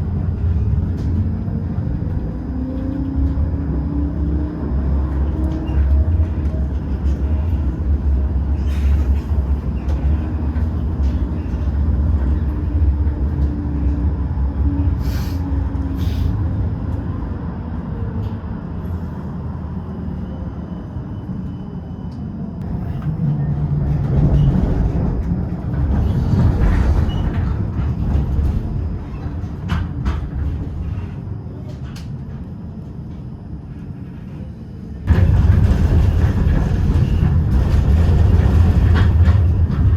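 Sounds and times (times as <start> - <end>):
tram motor hum: 0.0 - 39.9
tram rumbling on rails: 0.0 - 39.9.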